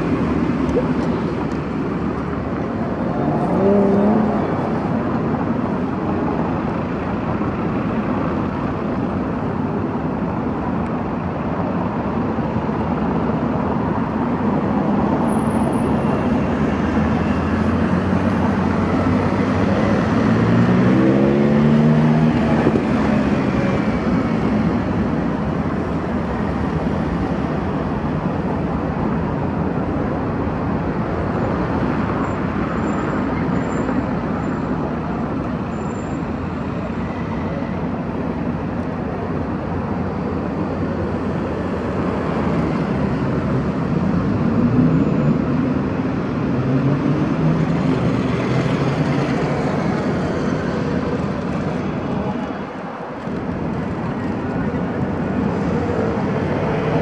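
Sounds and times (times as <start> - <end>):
cars and motorbikes driving past: 0.0 - 10.2, 11.7 - 57.0.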